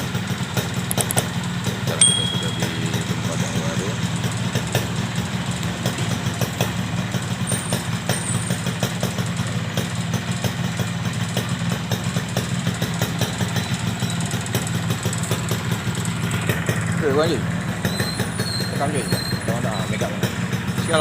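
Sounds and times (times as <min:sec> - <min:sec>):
motorcycle idling: 0:00.0 - 0:21.0.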